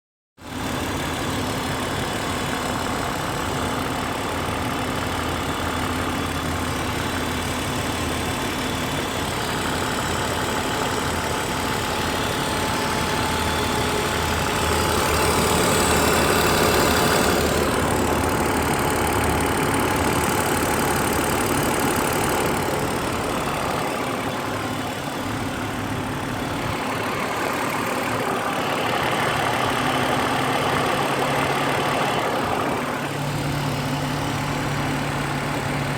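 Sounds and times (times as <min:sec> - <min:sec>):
car engine running: 0:00.5 - 0:35.9.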